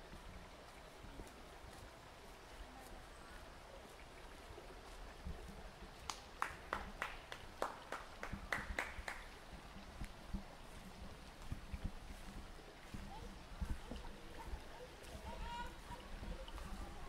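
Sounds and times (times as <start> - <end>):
faint outdoor ambience: 0.0 - 17.0
footsteps on a hard path: 0.0 - 17.0.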